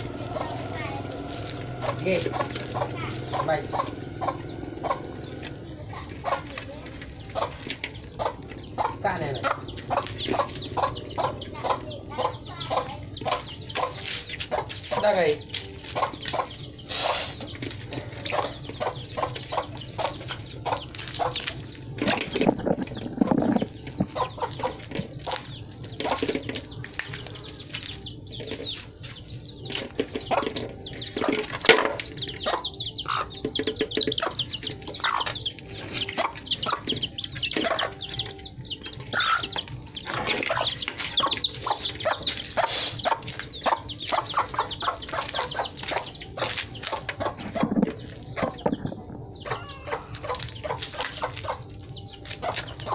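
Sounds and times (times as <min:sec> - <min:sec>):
hen clucking and chirping: 0:00.0 - 0:52.9.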